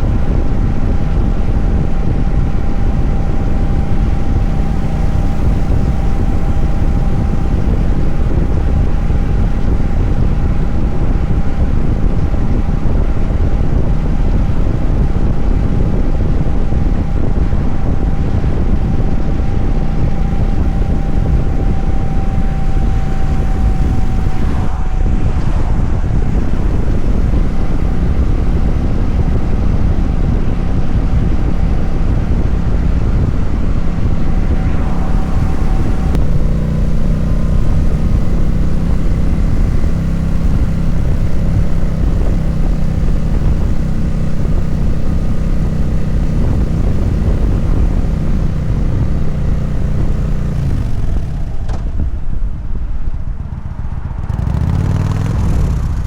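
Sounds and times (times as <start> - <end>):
heavy wind noise: 0.0 - 56.0
motorcycle engine running: 0.0 - 56.0.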